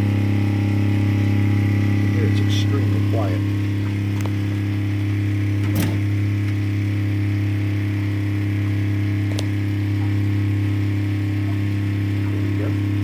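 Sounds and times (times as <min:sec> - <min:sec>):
pump humming: 0:00.0 - 0:13.0.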